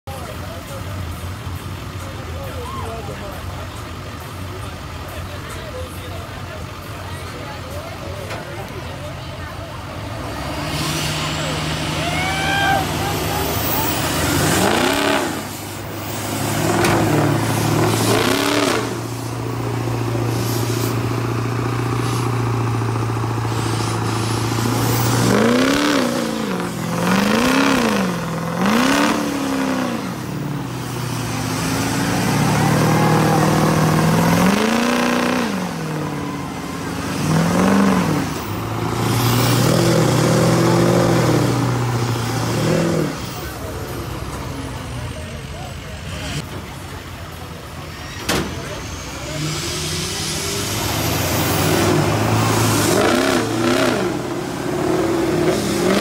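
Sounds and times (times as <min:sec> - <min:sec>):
truck engines revving: 0:00.0 - 0:56.0
spinning tires slinging mud: 0:06.7 - 0:56.0.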